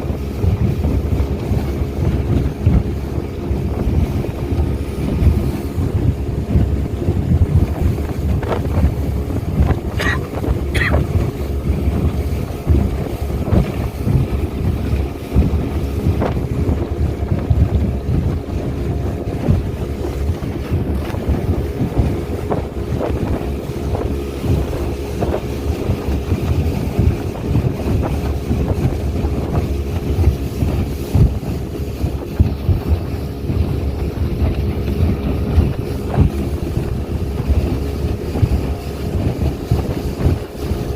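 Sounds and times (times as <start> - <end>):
speedboat engine running: 0.0 - 40.9
water rushing against hull: 0.0 - 40.9
wind buffeting microphone: 0.0 - 40.9.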